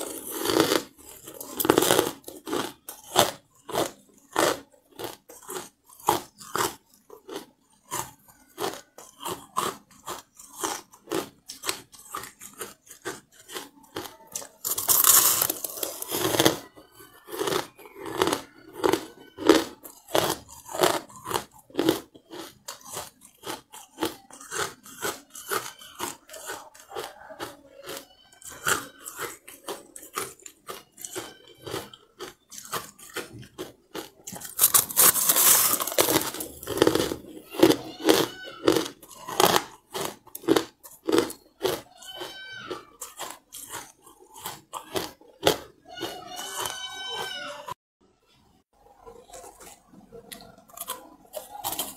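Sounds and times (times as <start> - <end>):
ice being chewed: 0.0 - 47.8, 48.8 - 51.9.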